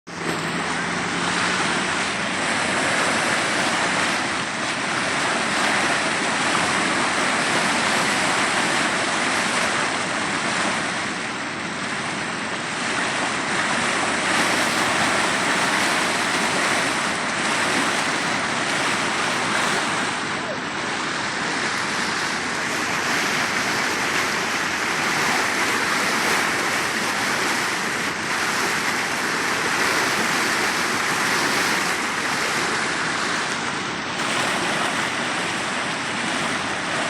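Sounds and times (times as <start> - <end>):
floodwater rushing: 0.1 - 37.0.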